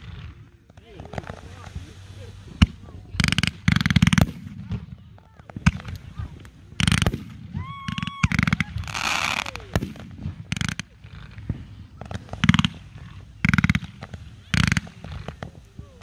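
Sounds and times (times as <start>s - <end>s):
fireworks crackling pops: 0.0s - 16.0s
fireworks hissing crackle: 0.0s - 16.0s.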